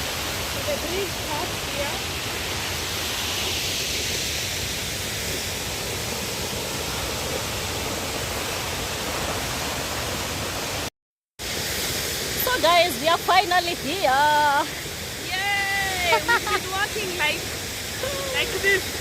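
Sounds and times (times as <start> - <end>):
waterfall roaring: 0.0 - 10.9, 11.6 - 19.0.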